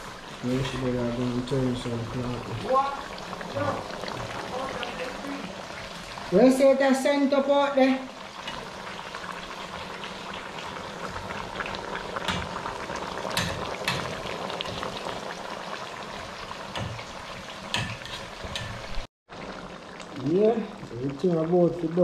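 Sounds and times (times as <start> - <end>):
food sizzling in oil: 0.0 - 22.0
pot simmering: 0.0 - 22.0.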